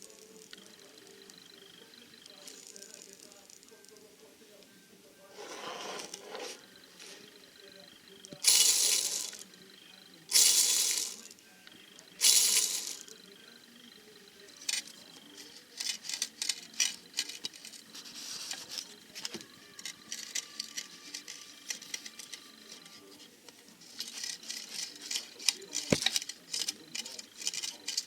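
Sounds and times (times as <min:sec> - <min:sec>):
worn bearings rattling: 0:00.0 - 0:04.0, 0:06.0 - 0:23.0, 0:23.6 - 0:28.0
bearings clicking and ticking: 0:00.0 - 0:04.1, 0:07.6 - 0:28.0.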